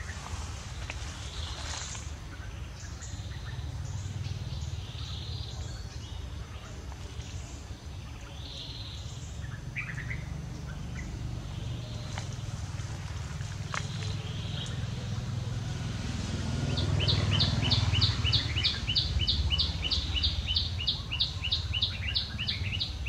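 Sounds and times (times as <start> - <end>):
birds chirping: 0.0 - 23.0
steady low rumble: 0.0 - 23.0.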